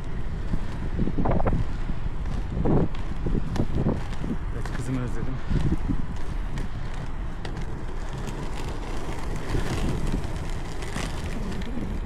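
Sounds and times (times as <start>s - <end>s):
skate wheels rumbling on asphalt: 0.0s - 12.0s
wheels clicking over cracks: 0.0s - 12.0s.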